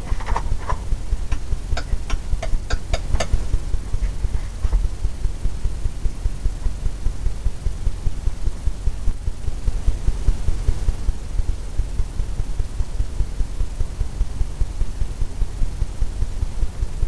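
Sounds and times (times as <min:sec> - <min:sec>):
low rumble with fast flutter: 0:00.0 - 0:17.0.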